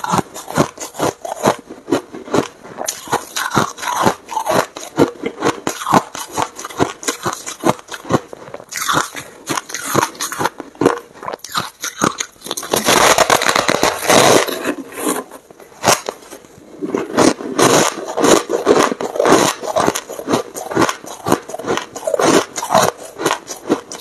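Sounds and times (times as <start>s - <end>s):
chewing crunchy ice: 0.0s - 24.0s.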